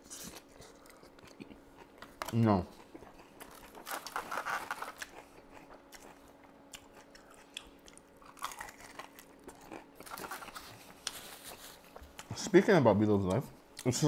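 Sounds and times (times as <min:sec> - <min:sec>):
close-miked chewing: 0:00.0 - 0:12.3.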